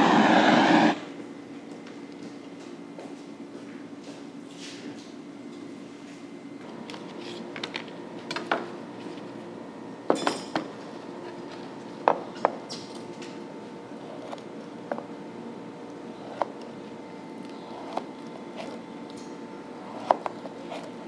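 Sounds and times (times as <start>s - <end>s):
steady hum: 0.0s - 1.8s, 5.1s - 21.0s.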